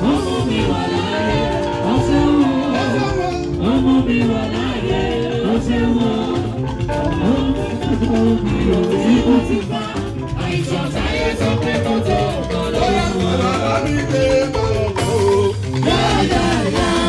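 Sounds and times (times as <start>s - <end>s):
church band playing: 0.0s - 17.0s
singers on microphones: 0.0s - 17.0s.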